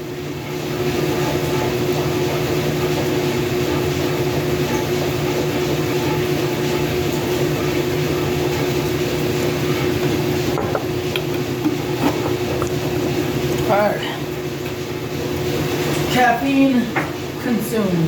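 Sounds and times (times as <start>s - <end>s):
washing machine rumbling: 0.0s - 18.0s.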